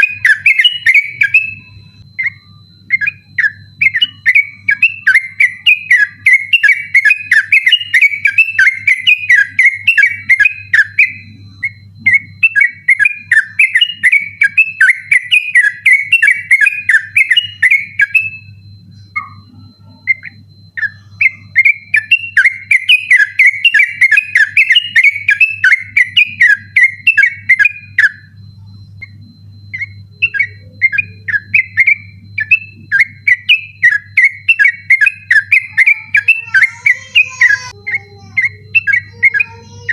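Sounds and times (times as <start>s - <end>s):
bulbul singing chattering whistles: 0.0s - 39.9s
faint steady hum: 0.0s - 39.9s.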